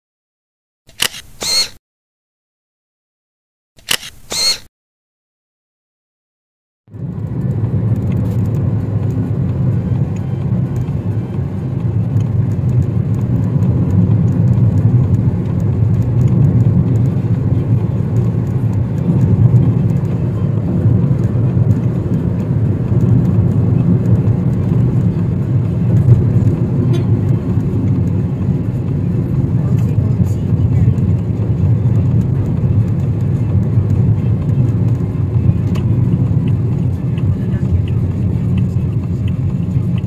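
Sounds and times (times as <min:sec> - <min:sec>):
car interior road and engine noise: 0:00.9 - 0:01.8, 0:03.8 - 0:04.7, 0:06.9 - 0:40.0.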